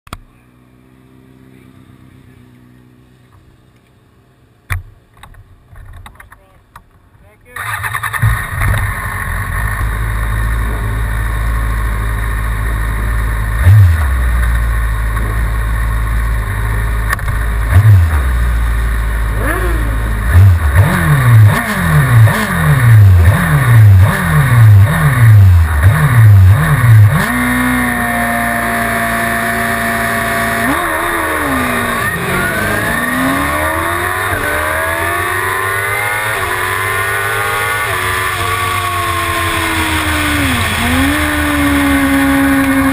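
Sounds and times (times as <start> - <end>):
motorcycle engine revving: 7.5 - 42.9.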